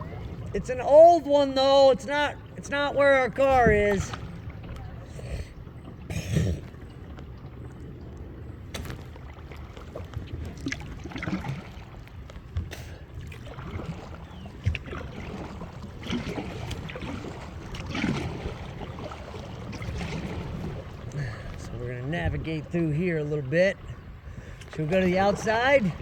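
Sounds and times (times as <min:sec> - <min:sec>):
water splashing off paddle: 0:00.0 - 0:26.0.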